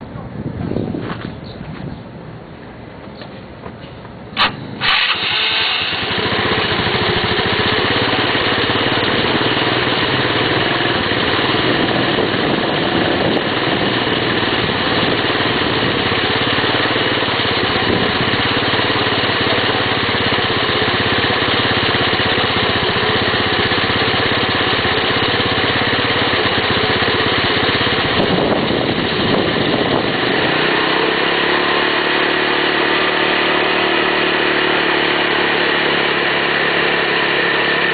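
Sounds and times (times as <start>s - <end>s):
scooter engine starting and running: 3.9s - 37.9s.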